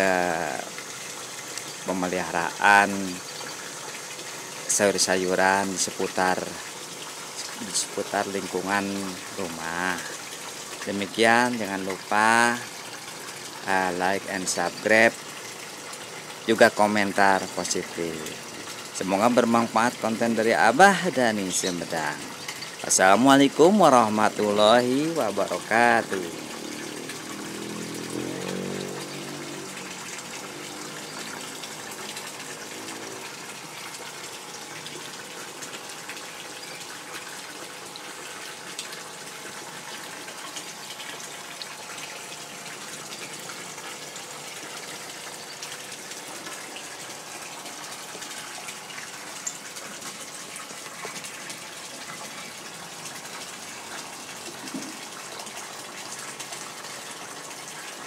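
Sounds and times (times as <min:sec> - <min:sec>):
water pouring into pond: 0:00.0 - 0:58.0.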